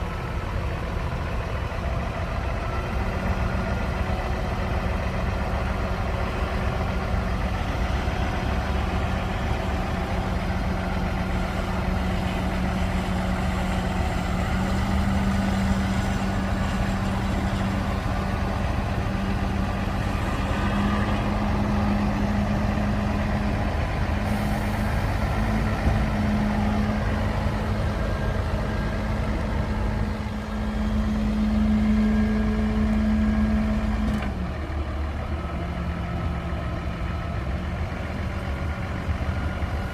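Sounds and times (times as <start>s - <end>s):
heavy machine diesel engine running: 0.0s - 39.9s.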